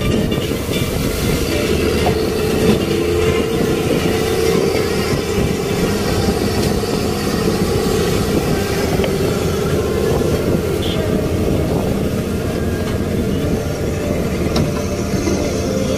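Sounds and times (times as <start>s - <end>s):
boat engine droning: 0.0s - 15.9s.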